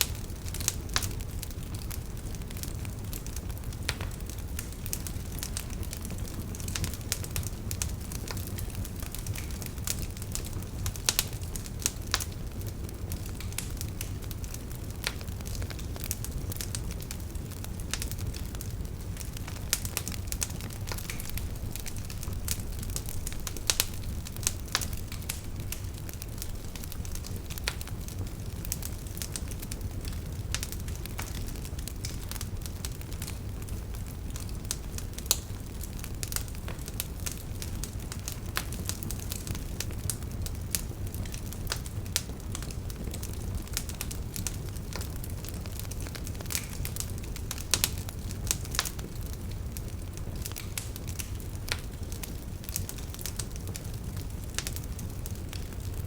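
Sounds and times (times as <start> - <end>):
fire crackling and popping: 0.0 - 56.0
low fire rumble: 0.0 - 56.0.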